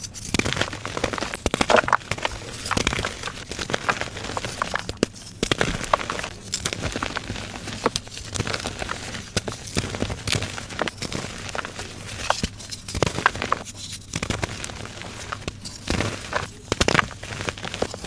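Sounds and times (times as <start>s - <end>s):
chalk crushing and crunching: 0.0s - 18.0s.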